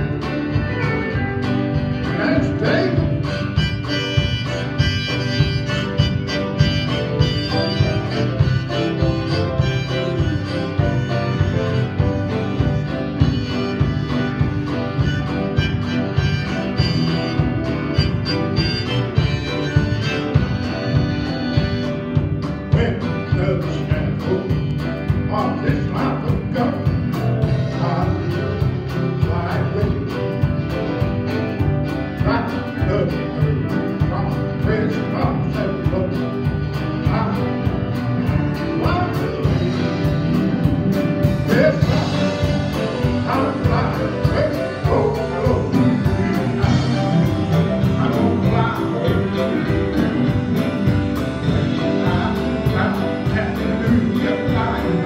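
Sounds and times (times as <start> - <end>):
bass guitar: 0.0 - 55.0
drums: 0.0 - 55.0
electric guitar: 0.0 - 55.0
keyboard: 0.0 - 55.0
man singing: 0.0 - 55.0.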